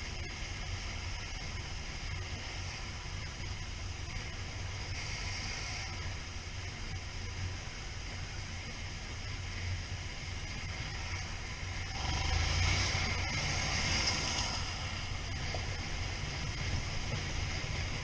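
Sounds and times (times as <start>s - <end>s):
motorcycle engine rumble: 0.0s - 18.0s
wind and road noise: 0.0s - 18.0s.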